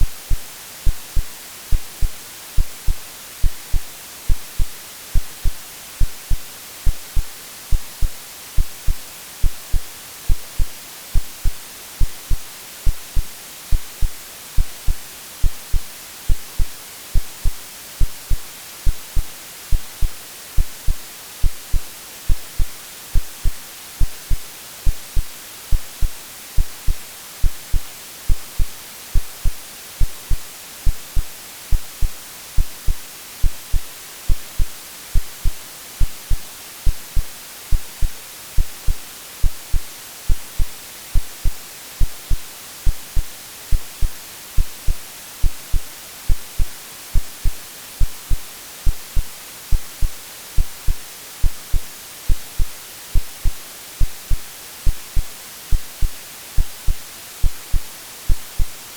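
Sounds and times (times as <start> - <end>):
synthetic heartbeat thumps: 0.0 - 58.7
white noise hiss: 0.0 - 58.9.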